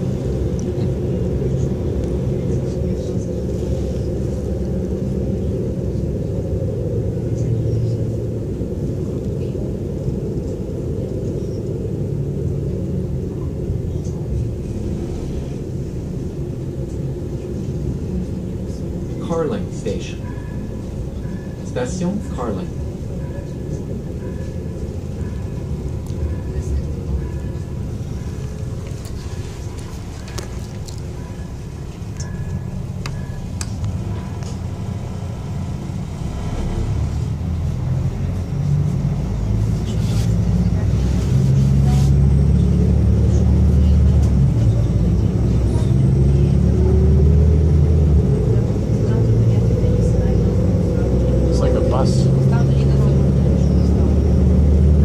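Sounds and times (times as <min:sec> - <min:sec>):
train engine and wheels rumbling: 0:00.0 - 0:55.0.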